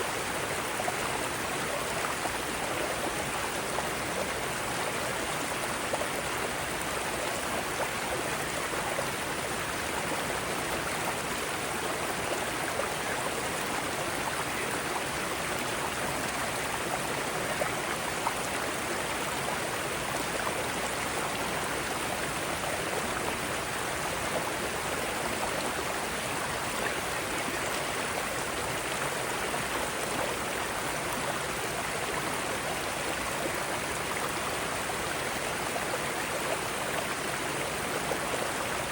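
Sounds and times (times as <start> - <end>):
water cascading over rocks: 0.0 - 38.9.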